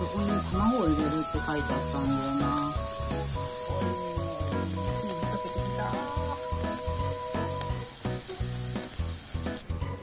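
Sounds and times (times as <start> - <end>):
meat sizzling on a grill: 0.0 - 9.9
soft background music: 0.0 - 10.0.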